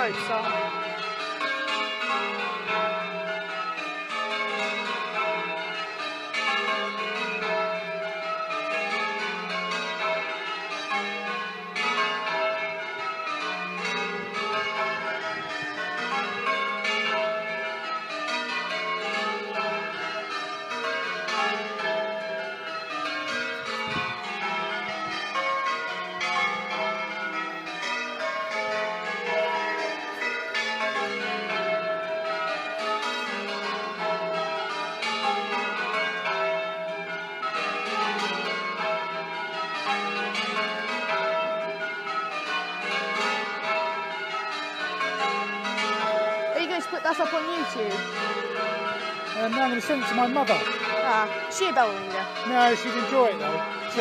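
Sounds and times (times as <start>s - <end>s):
church bells change ringing: 0.0s - 54.0s.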